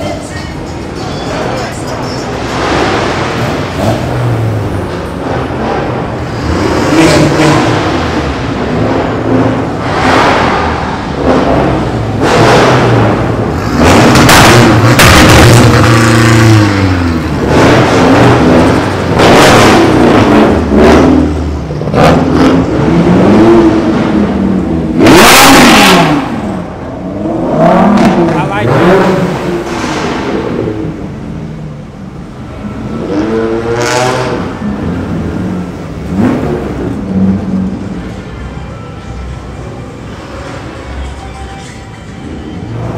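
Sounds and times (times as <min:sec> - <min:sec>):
cars revving in parking garage: 0:00.0 - 0:42.9.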